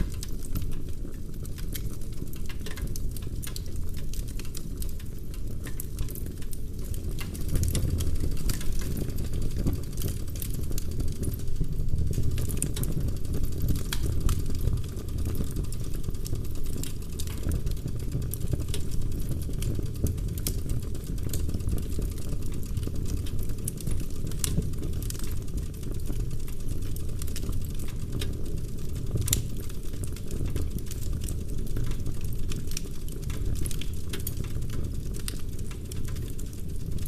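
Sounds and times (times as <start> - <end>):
logs crackling and popping: 0.0 - 37.0
low roar of flames: 0.0 - 37.0.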